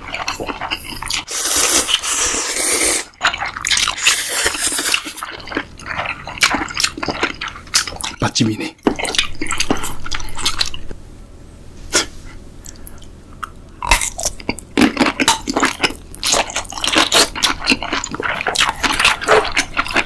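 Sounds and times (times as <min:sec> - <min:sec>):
person chewing food: 0:00.0 - 0:08.2, 0:08.8 - 0:11.0, 0:12.0 - 0:20.0.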